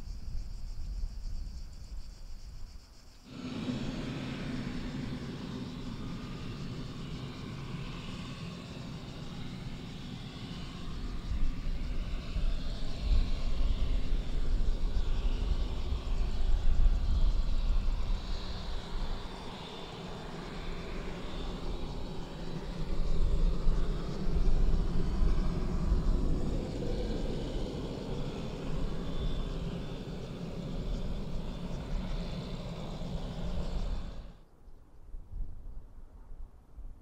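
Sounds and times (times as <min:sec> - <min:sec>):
turboprop engine drone with whine: 0:00.0 - 0:34.6.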